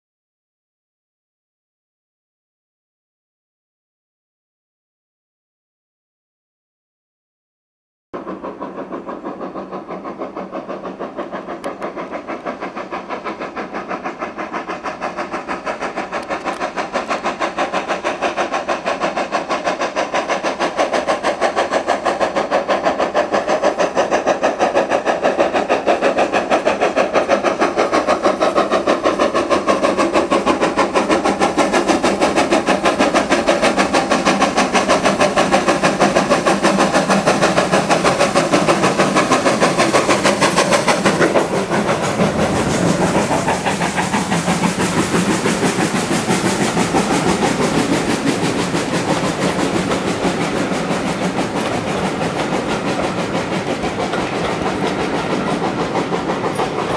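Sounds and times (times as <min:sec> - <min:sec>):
steam locomotive exhaust beats: 0:08.2 - 0:56.9.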